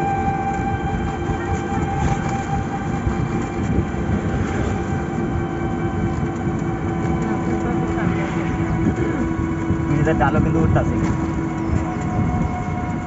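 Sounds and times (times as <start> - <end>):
road and wind noise: 0.0 - 13.0
three-wheeler drive whine: 0.0 - 13.0.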